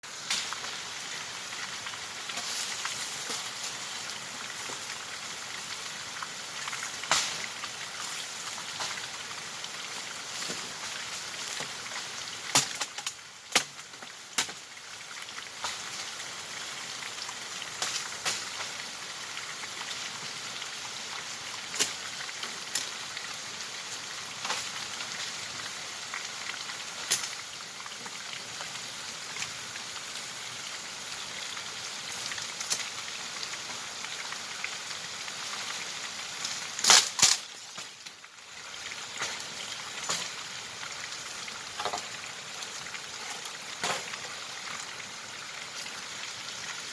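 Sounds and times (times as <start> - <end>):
running water hiss: 0.0 - 46.9.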